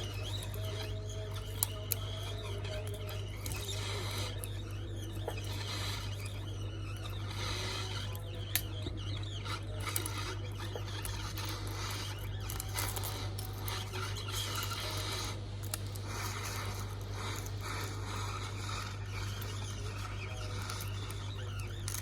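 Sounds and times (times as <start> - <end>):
steady low hum: 0.0 - 22.0
tool scratching glass: 0.0 - 22.0.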